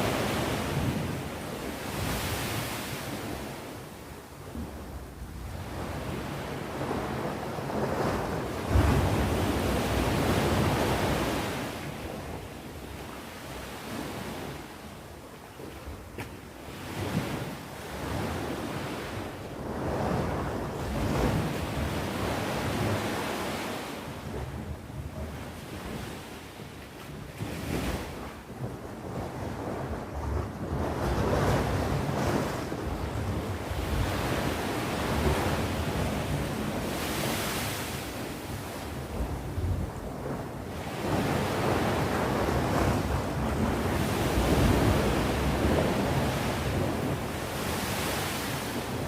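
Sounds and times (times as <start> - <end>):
sea waves breaking: 0.0 - 14.8, 15.6 - 49.0.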